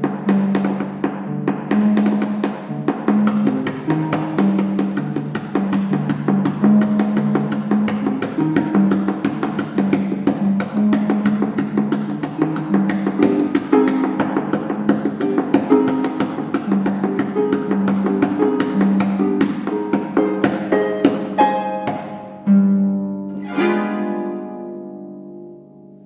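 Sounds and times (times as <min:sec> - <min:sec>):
harp played fast: 0:00.0 - 0:25.7.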